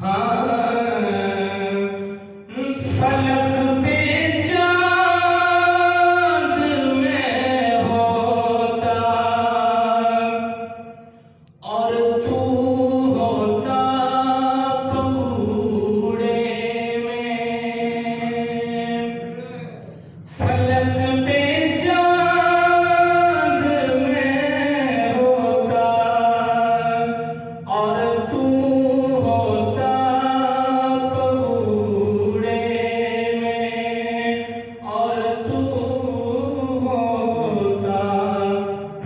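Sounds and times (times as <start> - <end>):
man singing unaccompanied: 0.0 - 10.7, 11.6 - 19.7, 20.3 - 39.0.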